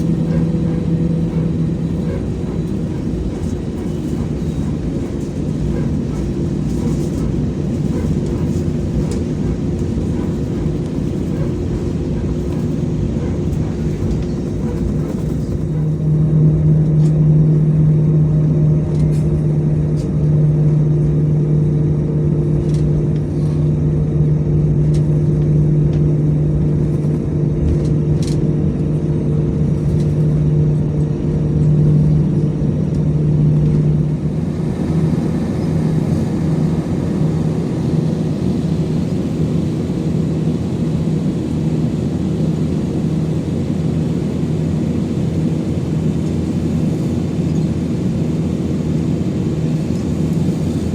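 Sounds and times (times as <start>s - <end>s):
jet engine cabin hum: 0.0s - 50.9s.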